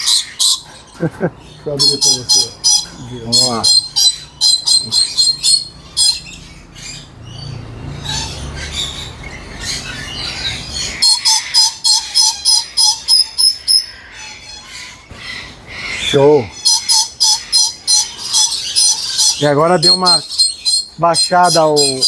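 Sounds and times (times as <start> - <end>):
lories screeching: 1.6 - 22.0.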